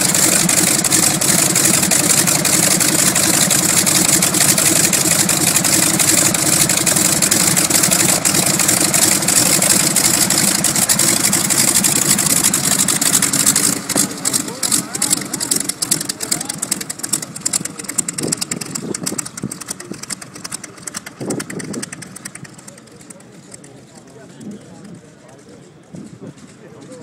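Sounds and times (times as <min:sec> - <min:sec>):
radial aircraft engine idling: 0:00.0 - 0:27.0.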